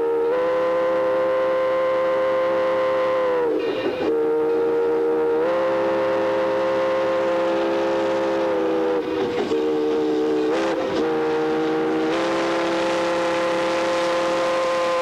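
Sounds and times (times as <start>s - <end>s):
steam locomotive chime whistle: 0.0s - 15.0s.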